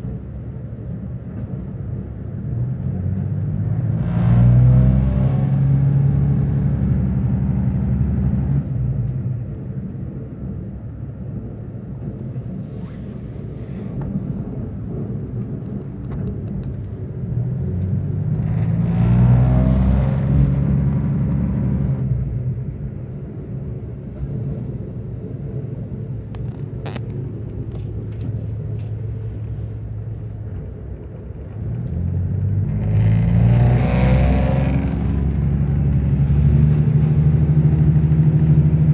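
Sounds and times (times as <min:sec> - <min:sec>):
railcar engine rumble: 0:00.0 - 0:38.9.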